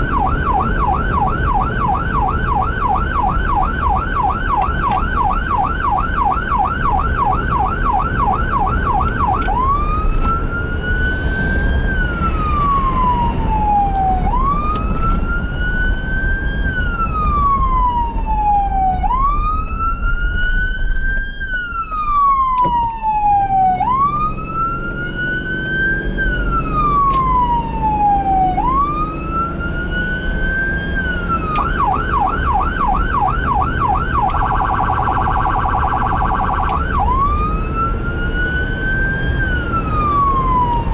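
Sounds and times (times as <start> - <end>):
electronic siren: 0.0 - 40.9
low vehicle rumble: 0.0 - 40.9.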